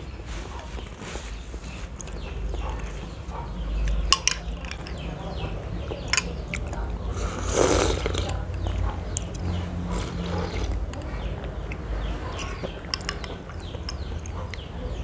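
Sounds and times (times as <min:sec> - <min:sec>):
chewing and wet mouth noises: 0:00.2 - 0:15.0.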